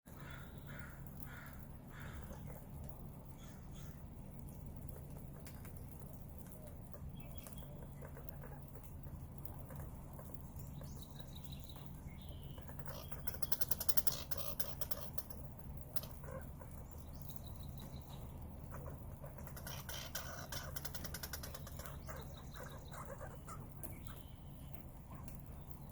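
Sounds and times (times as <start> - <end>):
birds chirping and calling: 0.1 - 25.9
steady low hum: 0.1 - 25.9.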